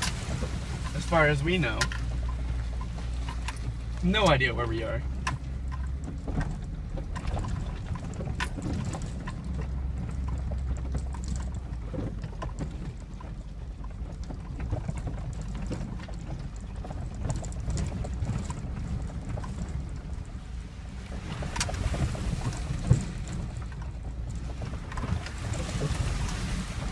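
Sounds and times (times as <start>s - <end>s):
knocks and rattles from bumps: 0.0s - 26.9s
truck engine rumbling: 0.0s - 26.9s.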